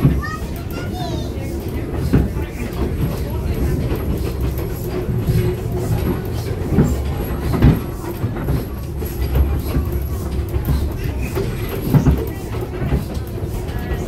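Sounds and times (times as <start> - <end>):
wheels rumbling on track: 0.0 - 14.0.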